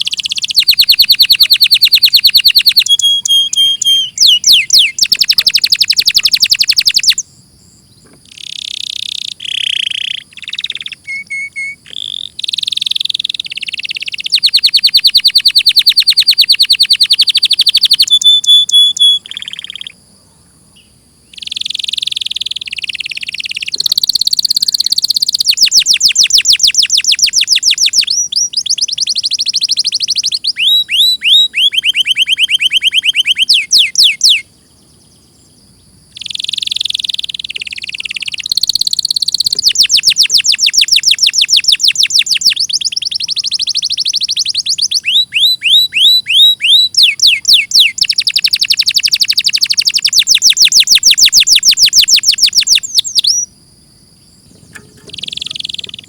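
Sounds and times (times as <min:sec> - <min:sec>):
canary singing: 0:00.0 - 0:20.0, 0:20.8 - 0:53.5, 0:54.3 - 0:56.0.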